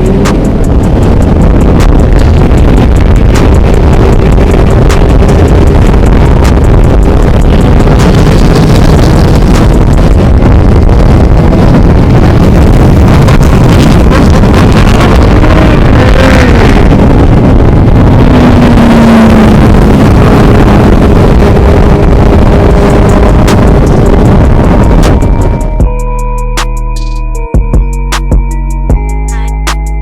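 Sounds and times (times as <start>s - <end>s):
motorcycle engines running: 0.0s - 26.0s
wind noise on microphone: 0.0s - 30.0s.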